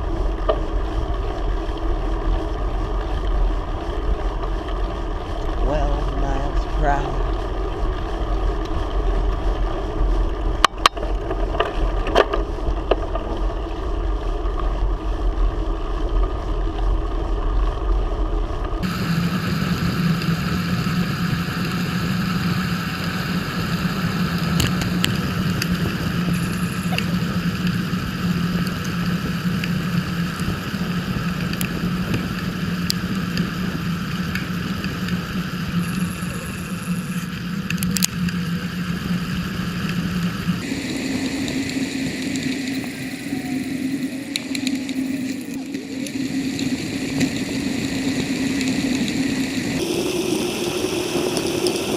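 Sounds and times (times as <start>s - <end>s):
steady low hum: 0.0s - 51.9s
wind and road noise while cycling: 0.0s - 51.9s.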